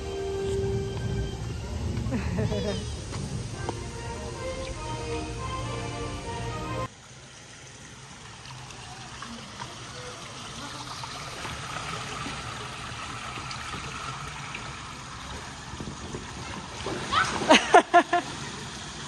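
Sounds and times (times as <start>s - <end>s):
pool water trickling and lapping: 0.0s - 19.0s.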